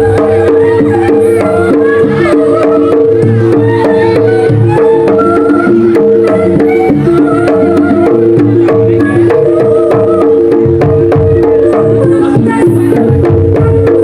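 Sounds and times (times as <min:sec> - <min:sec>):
hand drums beating: 0:00.0 - 0:14.0.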